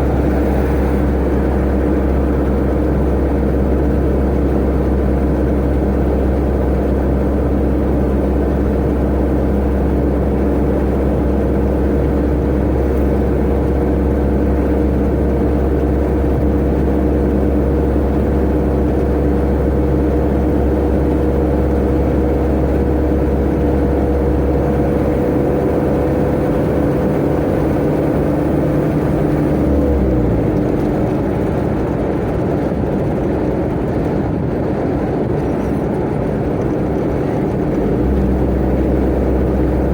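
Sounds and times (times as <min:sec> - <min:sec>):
road rumble: 0:00.0 - 0:39.9
truck engine running: 0:00.0 - 0:39.9.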